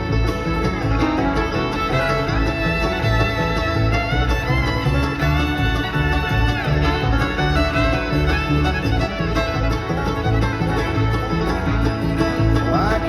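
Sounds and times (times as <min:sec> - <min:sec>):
bluegrass band playing: 0:00.0 - 0:13.0
fiddle sliding notes: 0:00.0 - 0:13.0.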